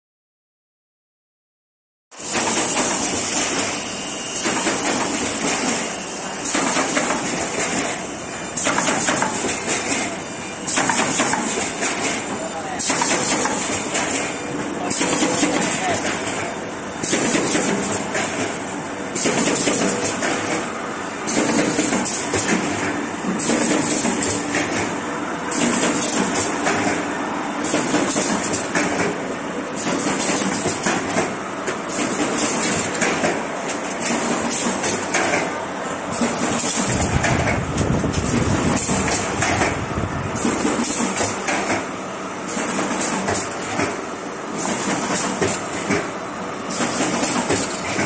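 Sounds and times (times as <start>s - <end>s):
machine hissing clatter: 2.2s - 48.0s.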